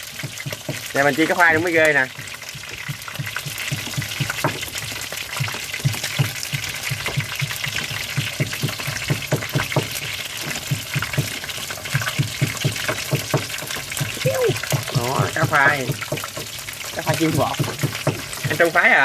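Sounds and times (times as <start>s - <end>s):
oil popping: 0.0s - 19.0s
seafood deep-frying in hot oil: 0.0s - 19.0s.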